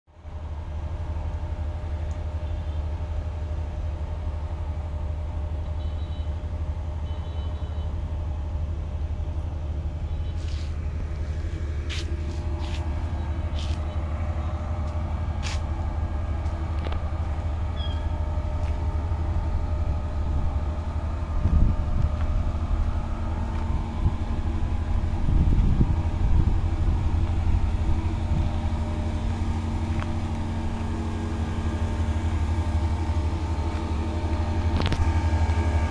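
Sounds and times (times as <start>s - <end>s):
low motor rumble: 0.1s - 35.9s.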